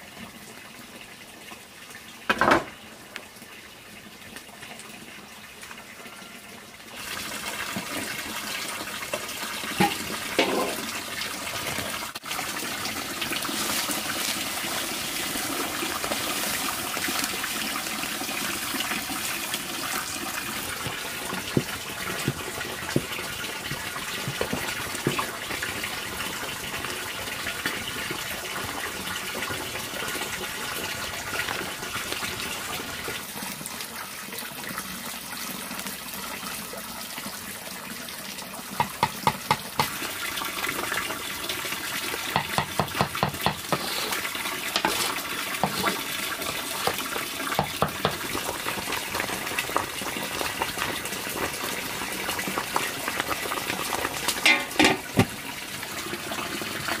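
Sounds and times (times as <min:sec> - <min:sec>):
water running from a tap: 0:04.2 - 0:57.0.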